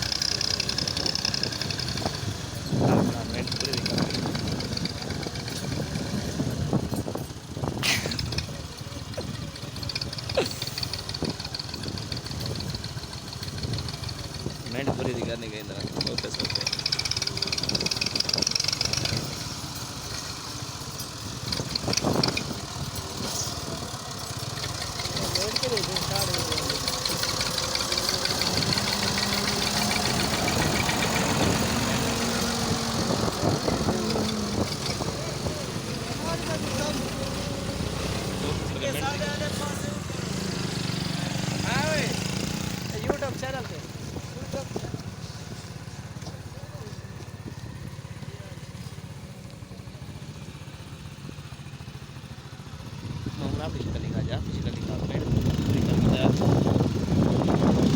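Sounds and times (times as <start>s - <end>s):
vehicle engine running: 0.0s - 57.9s.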